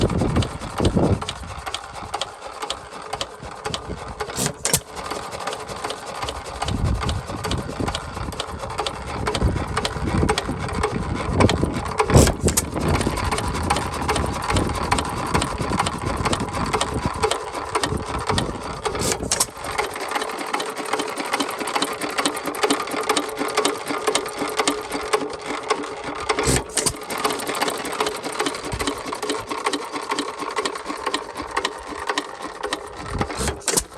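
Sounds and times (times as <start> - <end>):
engine mechanical clatter: 0.0 - 33.9
engine sharp crack: 0.0 - 33.9.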